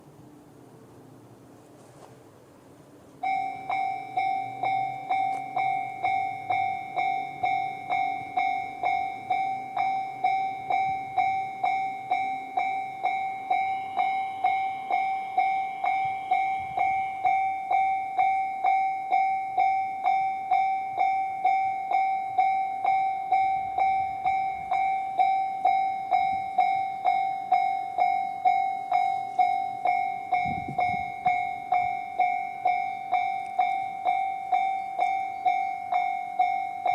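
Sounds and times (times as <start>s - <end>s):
level-crossing warning bell dinging: 2.9s - 36.9s.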